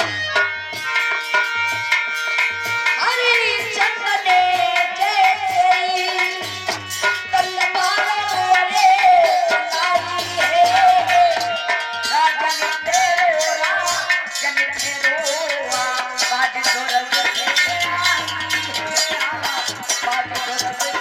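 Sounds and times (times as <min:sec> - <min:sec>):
tabla hand-drum strokes: 0:00.0 - 0:21.0.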